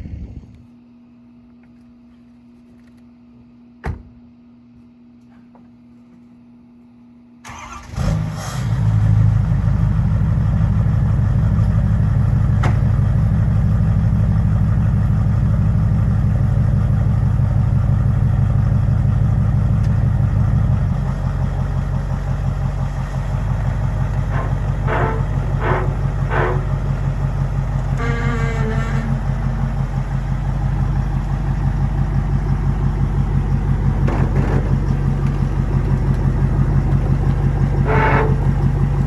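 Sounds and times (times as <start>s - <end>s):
diesel pickup engine starting: 7.4s - 39.0s.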